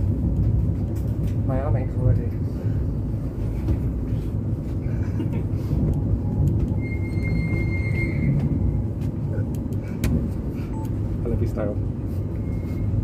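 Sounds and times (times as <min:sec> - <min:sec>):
tram low rumble: 0:00.0 - 0:13.0.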